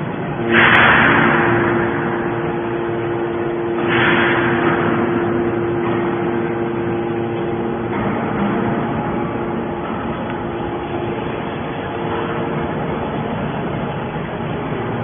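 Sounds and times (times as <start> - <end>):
baler motor humming: 0.0 - 15.0
rush of noise: 0.0 - 15.0.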